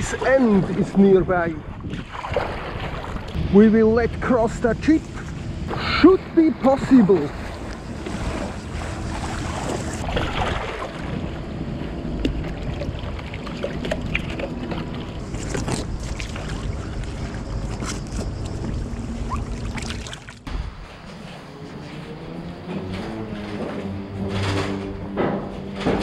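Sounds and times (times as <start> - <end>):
wind buffeting microphone: 0.0 - 21.2
low steady hum: 0.0 - 26.0
water lapping and splashing: 0.0 - 26.0.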